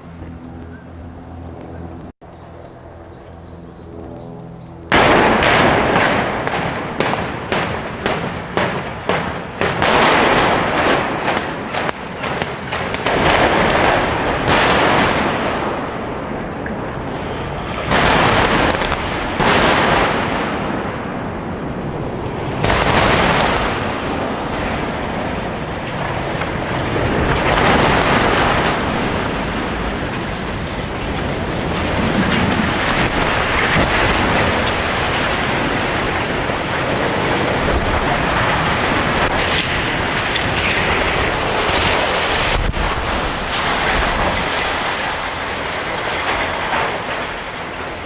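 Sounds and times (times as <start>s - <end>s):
sharp demolition blasts: 4.9s - 16.3s, 17.8s - 48.0s
heavy rolling booms: 4.9s - 48.0s.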